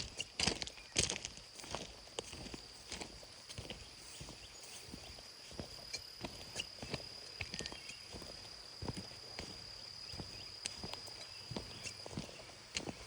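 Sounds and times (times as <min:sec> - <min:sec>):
footsteps on ground: 0:00.0 - 0:13.0.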